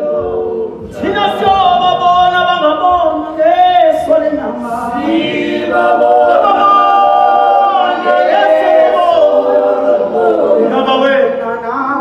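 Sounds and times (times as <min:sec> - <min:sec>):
a cappella group singing: 0:00.0 - 0:11.4.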